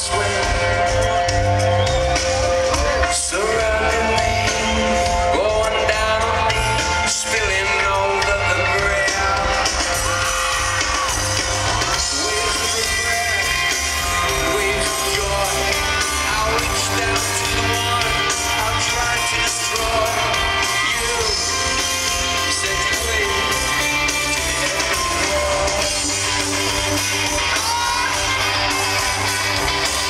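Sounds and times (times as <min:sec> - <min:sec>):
live rock band playing: 0:00.0 - 0:30.0
singer's voice: 0:00.0 - 0:30.0.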